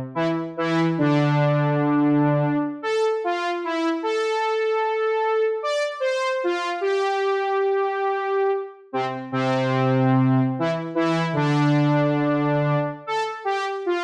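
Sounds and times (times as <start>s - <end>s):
synthesizer playing slow melody: 0.0s - 14.0s.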